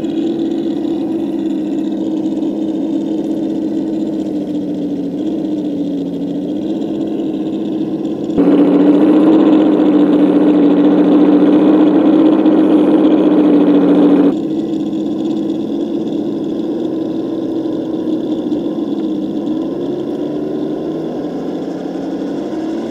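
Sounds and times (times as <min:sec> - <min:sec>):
simulated engine rumble: 0:00.0 - 0:22.9.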